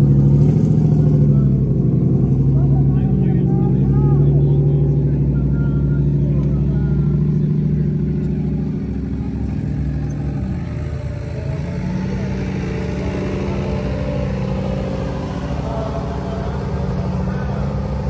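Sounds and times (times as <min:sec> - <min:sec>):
off-road vehicle engines running: 0:00.0 - 0:18.0.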